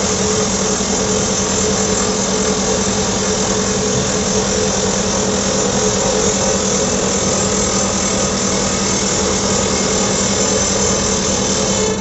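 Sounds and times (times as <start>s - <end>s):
hydraulic rock drill hammering: 0.0s - 12.0s
machine hum: 0.0s - 12.0s.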